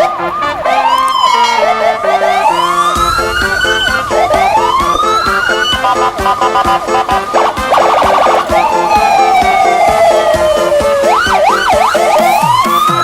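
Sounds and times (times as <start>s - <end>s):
descending electronic notes: 0.0s - 13.0s
electronic siren wails: 0.0s - 13.0s.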